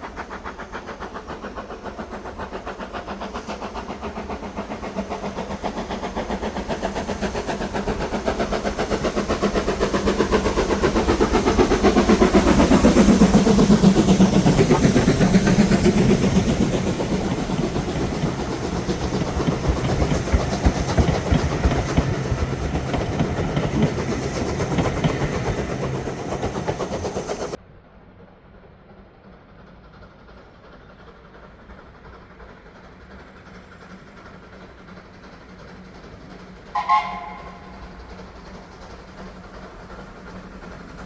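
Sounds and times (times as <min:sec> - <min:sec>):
train wheels clicking over rails: 0:00.0 - 0:27.6, 0:28.8 - 0:41.0.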